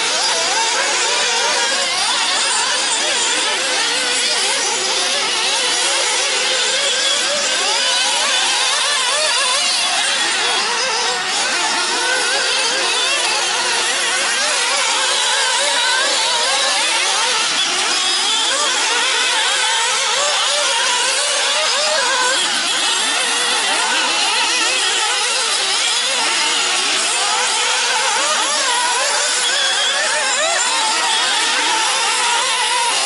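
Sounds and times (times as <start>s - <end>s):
rc buggy engines buzzing: 0.0s - 33.0s.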